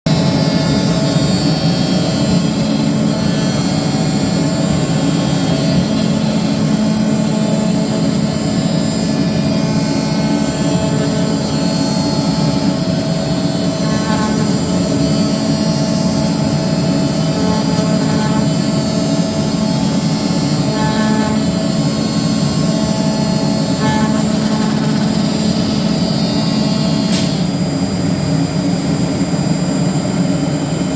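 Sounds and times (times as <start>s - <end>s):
cnc router mechanical drone: 0.1s - 30.9s.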